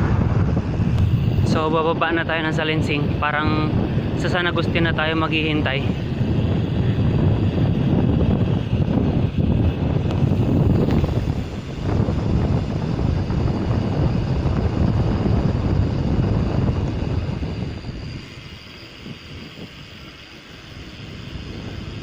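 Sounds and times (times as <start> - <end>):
bike and tyre noise: 0.0 - 22.0
wind buffeting microphone: 0.0 - 22.0.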